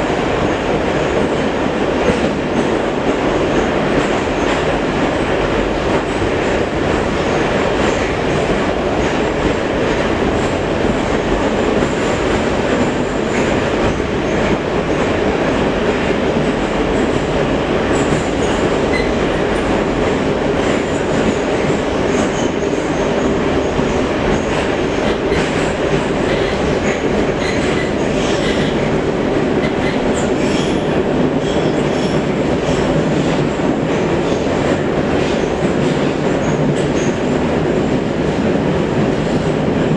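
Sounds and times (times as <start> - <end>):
rail clicks: 0.0 - 39.9
train roar in tunnel: 0.0 - 39.9.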